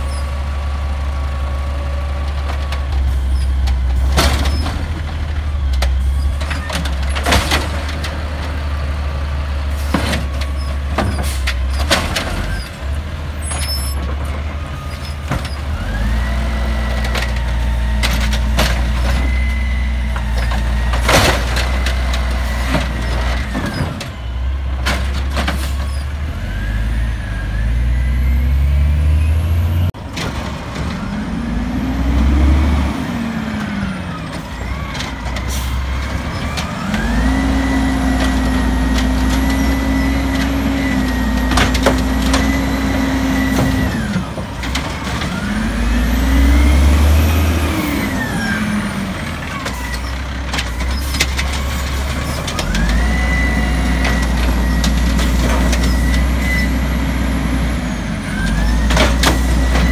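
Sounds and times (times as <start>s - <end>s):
garbage truck engine revving: 0.0s - 59.9s.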